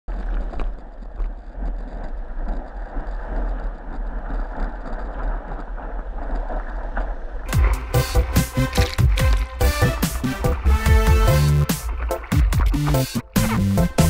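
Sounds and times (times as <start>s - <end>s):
muffled whitewater rumble: 0.1s - 14.0s
water splashes: 0.1s - 14.0s.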